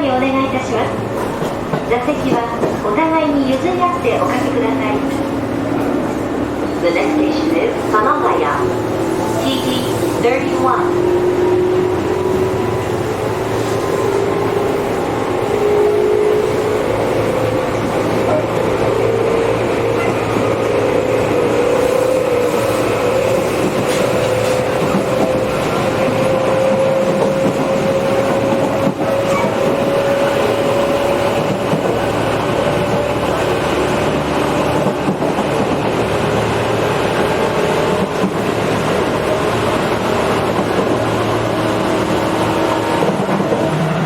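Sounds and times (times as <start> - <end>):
train wheel and rail noise: 0.0 - 44.0.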